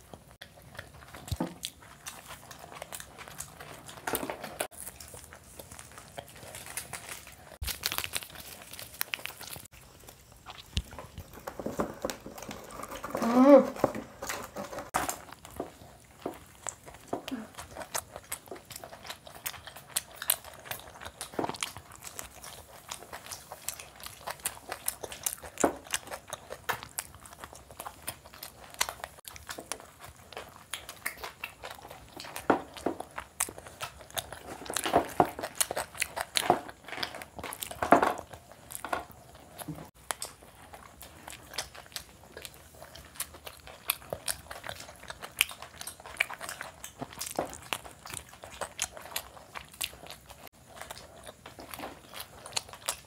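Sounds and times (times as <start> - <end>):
people chewing crunchy food: 0.0 - 53.0.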